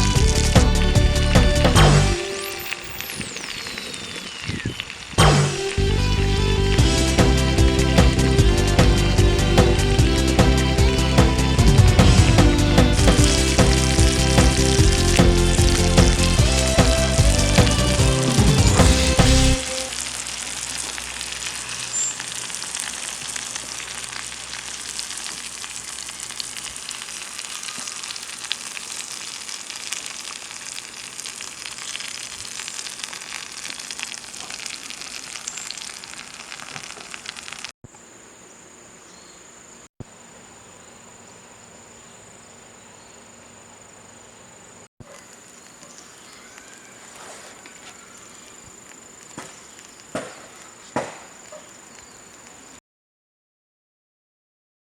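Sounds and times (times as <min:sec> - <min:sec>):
fire crackling: 0:00.0 - 0:37.8, 0:45.0 - 0:52.8.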